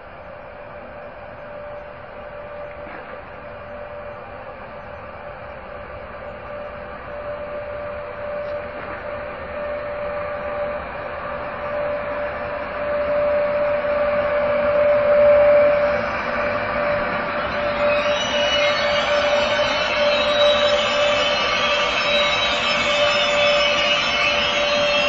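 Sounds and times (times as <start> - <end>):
electric locomotive whine: 0.0 - 25.0
train wheels rumbling: 0.0 - 25.0.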